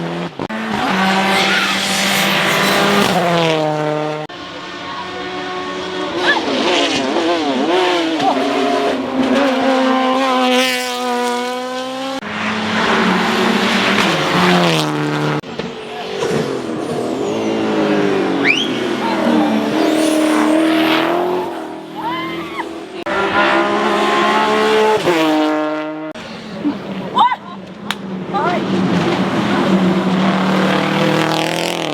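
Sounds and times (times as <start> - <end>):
race car engines revving: 0.0 - 31.9.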